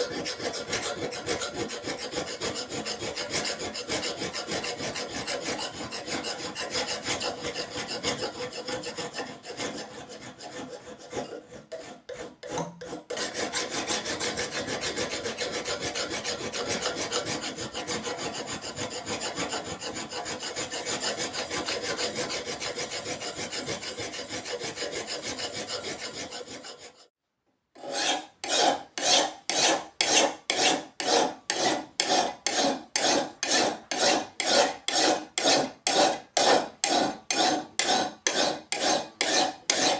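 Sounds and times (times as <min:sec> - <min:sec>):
hand file rasping on metal: 0:00.0 - 0:27.1, 0:27.8 - 0:39.9.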